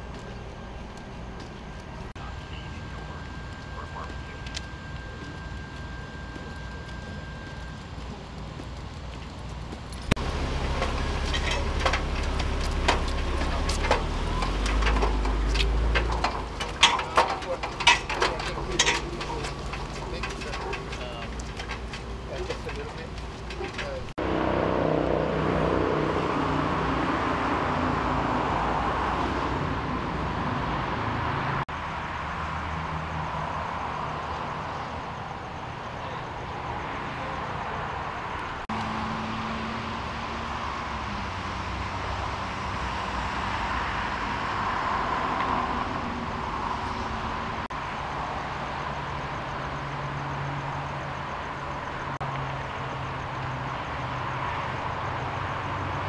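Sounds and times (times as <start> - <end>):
outdoor ambient hiss: 0.0 - 56.0
vehicle engines idling: 0.0 - 56.0.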